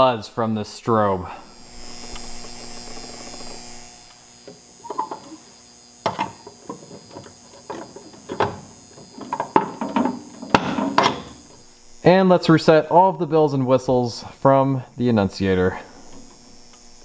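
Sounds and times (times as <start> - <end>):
steady hum: 0.0 - 17.0
fire alarm strobe buzz: 1.2 - 17.0.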